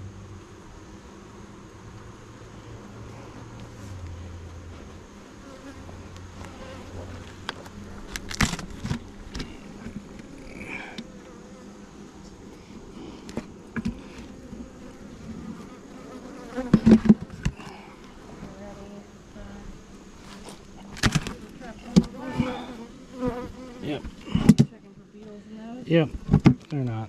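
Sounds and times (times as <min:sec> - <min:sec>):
bees buzzing: 0:00.4 - 0:24.7.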